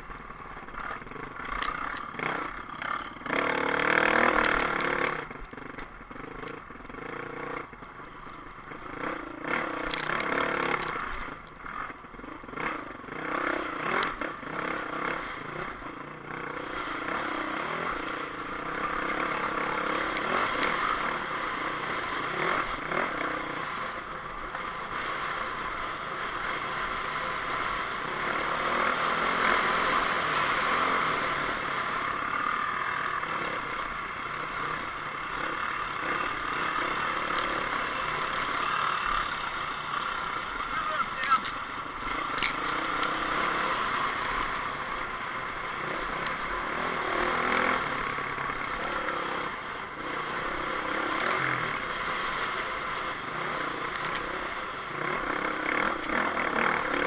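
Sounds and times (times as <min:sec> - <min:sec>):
dirt bike engine revving: 0:00.2 - 0:07.8, 0:08.4 - 0:57.0.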